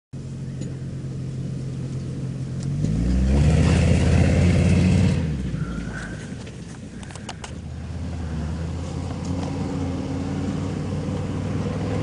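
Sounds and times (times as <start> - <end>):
pickup truck engine revving: 2.3 - 12.0.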